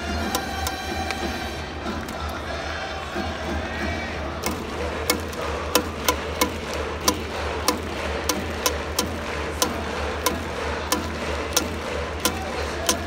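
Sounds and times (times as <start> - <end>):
crowd clapping in rhythm: 0.0 - 13.0
crowd din: 0.0 - 13.0
faint song over stadium speakers: 0.0 - 13.0.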